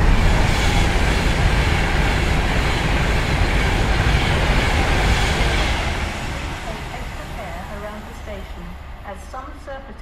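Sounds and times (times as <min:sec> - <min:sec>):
train rushing past: 0:00.0 - 0:10.0.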